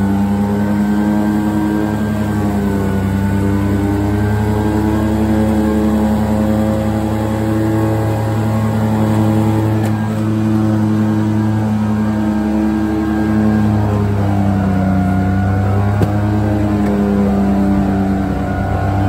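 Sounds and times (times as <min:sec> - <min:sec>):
mower deck cutting grass: 0:00.0 - 0:19.0
mower diesel engine running: 0:00.0 - 0:19.0.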